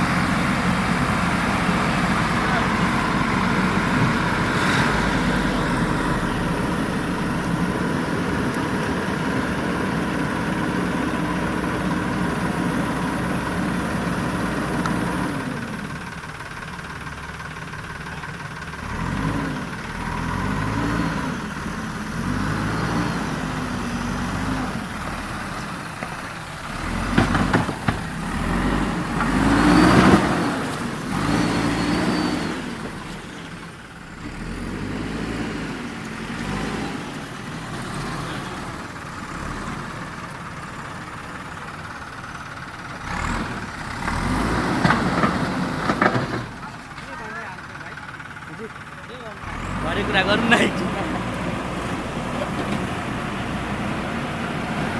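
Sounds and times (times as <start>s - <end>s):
diesel engine revving: 0.0s - 54.9s.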